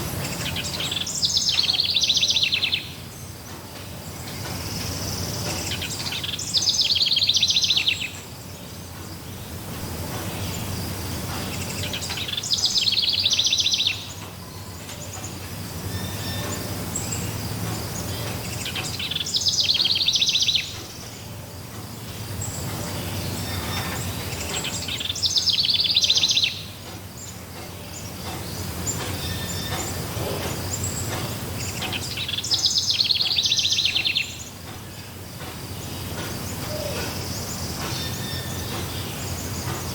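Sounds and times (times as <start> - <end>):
songbird singing trilled song: 0.0 - 39.9.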